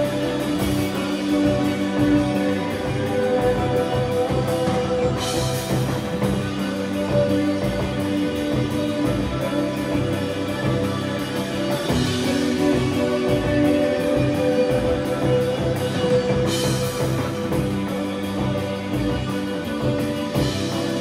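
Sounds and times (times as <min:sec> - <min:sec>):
drum kit beat: 0:00.0 - 0:21.0
electric guitars sustained notes: 0:00.0 - 0:21.0.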